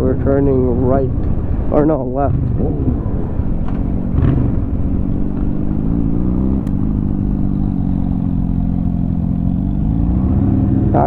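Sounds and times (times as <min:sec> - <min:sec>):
motorcycle engine running: 0:00.0 - 0:11.0
wind rush: 0:01.0 - 0:10.8.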